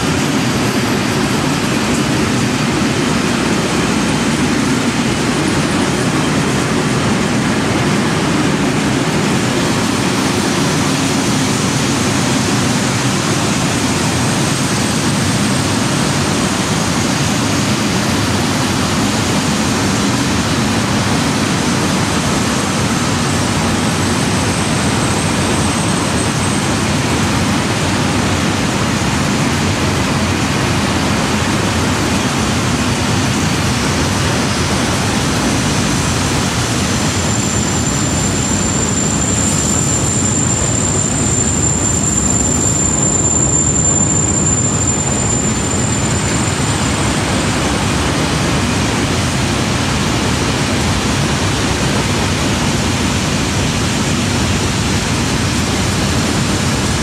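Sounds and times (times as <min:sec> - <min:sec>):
train rolling past: 0:00.0 - 0:51.0
thin high whine: 0:00.0 - 0:57.0.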